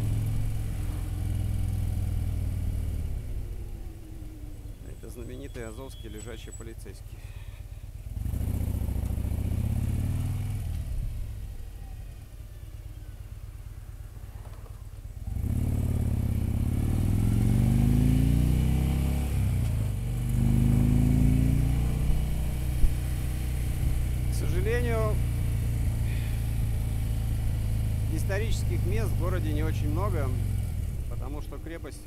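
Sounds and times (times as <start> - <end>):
motorcycle engine accelerating: 0.0 - 6.3, 8.0 - 32.0.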